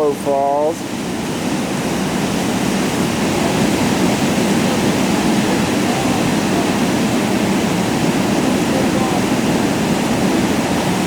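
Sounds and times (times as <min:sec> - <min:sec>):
roar of waterfall: 0:00.0 - 0:11.0.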